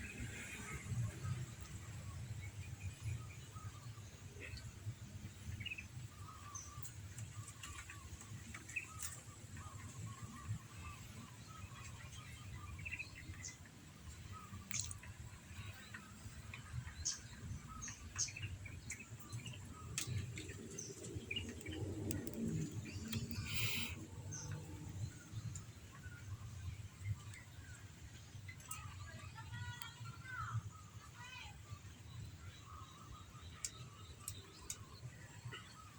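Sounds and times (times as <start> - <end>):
birds chirping: 0.0 - 35.9
low background rumble: 0.0 - 35.9.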